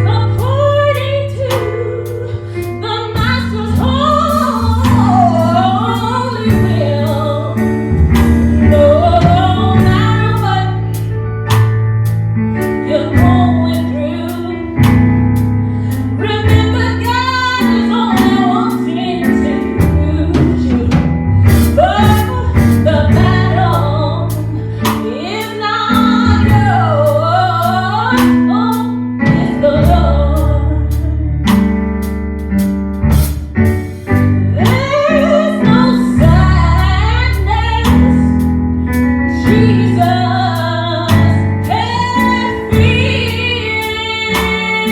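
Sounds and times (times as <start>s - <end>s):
keyboard and bass chords: 0.0s - 44.9s
steady drum beat: 0.2s - 15.5s, 16.4s - 44.9s.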